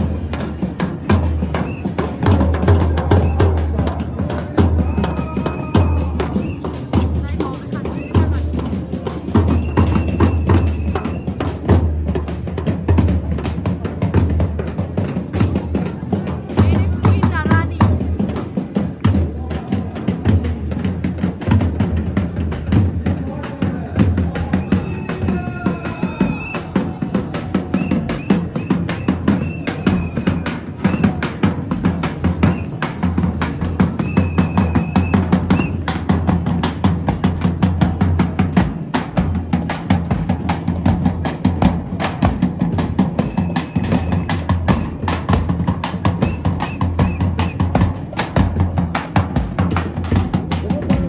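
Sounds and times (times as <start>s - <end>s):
marching drums beating: 0.0s - 51.0s.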